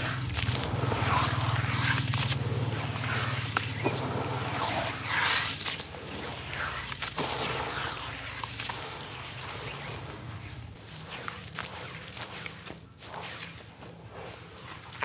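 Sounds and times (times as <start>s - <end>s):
mud squelching and sloshing: 0.0s - 15.0s
steady low hum: 0.0s - 15.0s.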